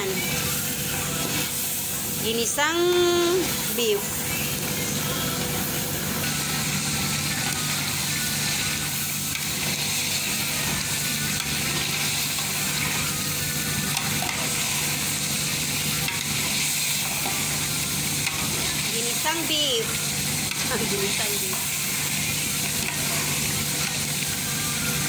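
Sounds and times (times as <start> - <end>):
meat sizzling in hot oil: 0.0 - 25.0.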